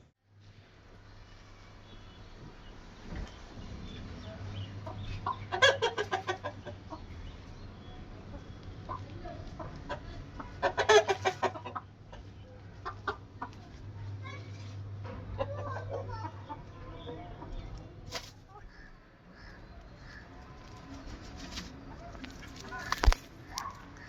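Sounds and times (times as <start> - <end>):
chickens clucking: 3.2 - 24.0.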